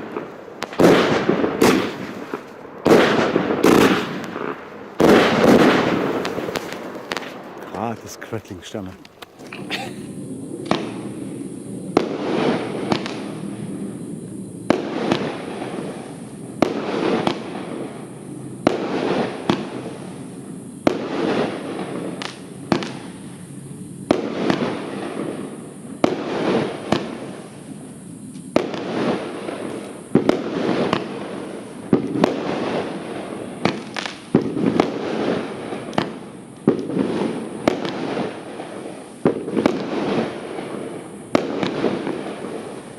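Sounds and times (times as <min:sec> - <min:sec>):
crackling firework sparks: 0:00.0 - 0:42.9
firework battery sharp reports: 0:00.0 - 0:42.9.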